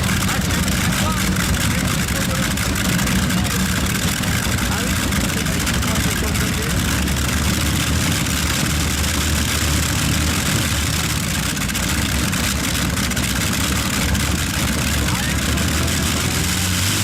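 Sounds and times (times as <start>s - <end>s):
engines deep rumble: 0.0s - 17.0s.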